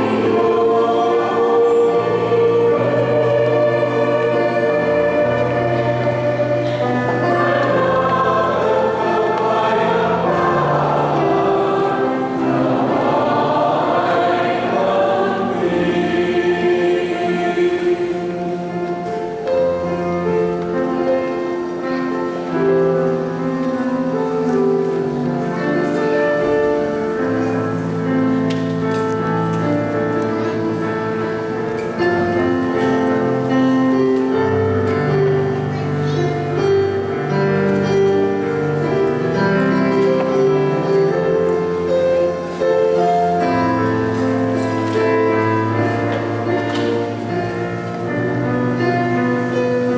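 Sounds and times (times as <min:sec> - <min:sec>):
choir singing a hymn: 0:00.0 - 0:49.9
long held accompanying chords: 0:00.0 - 0:49.9.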